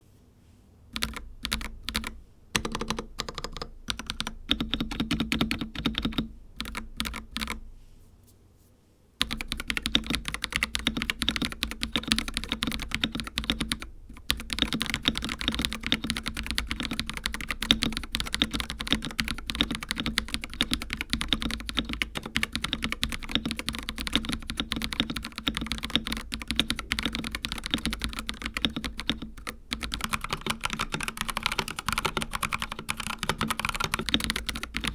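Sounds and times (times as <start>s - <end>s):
typing on mechanical keyboard: 1.0s - 7.6s, 9.2s - 34.9s.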